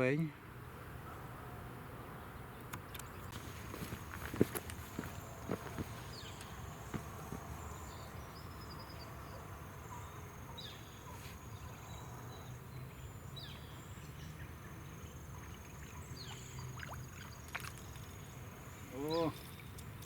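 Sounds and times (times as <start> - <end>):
falling bird calls: 2.8 - 19.8.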